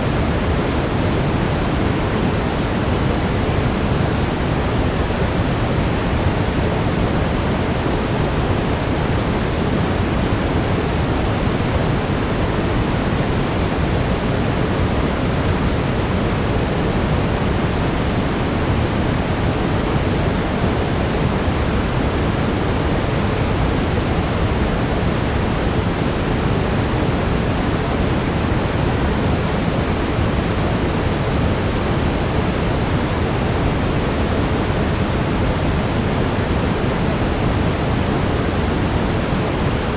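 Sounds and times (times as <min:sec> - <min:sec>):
brown noise rush: 0:00.0 - 0:39.9.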